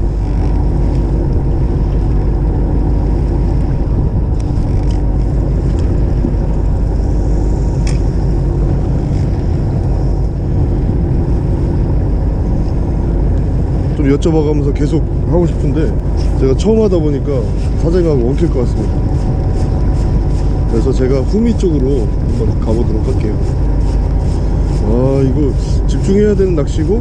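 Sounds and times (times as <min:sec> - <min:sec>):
boat engine rumbling: 0:00.0 - 0:27.0
water around hull: 0:00.0 - 0:27.0
wind: 0:00.0 - 0:27.0.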